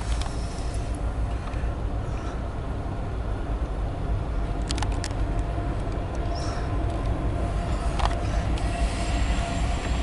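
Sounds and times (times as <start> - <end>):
diesel locomotives rumbling: 0.0 - 10.0.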